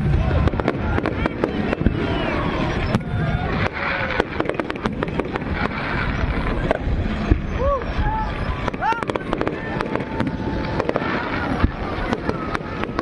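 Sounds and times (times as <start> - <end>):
fireworks crackle: 0.0 - 13.0
fireworks cracks and bangs: 0.0 - 13.0.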